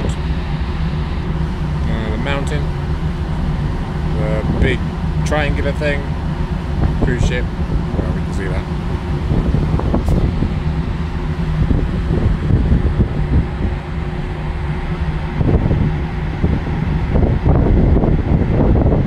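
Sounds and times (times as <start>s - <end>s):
ferry engines droning: 0.0s - 19.0s
wind buffeting microphone: 0.0s - 19.0s.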